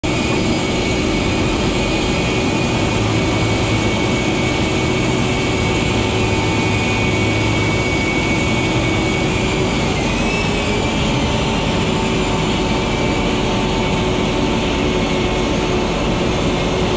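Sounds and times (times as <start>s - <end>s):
jet turbine whine and rumble: 0.0s - 16.9s.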